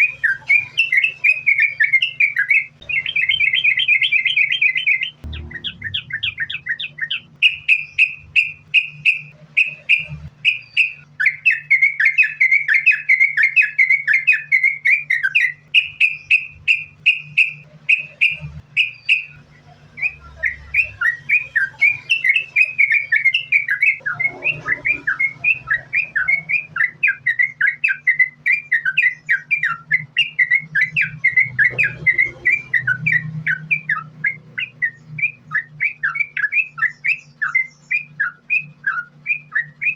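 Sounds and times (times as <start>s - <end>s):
bird singing chattering notes: 0.0s - 39.9s
faint low hum: 0.0s - 39.9s.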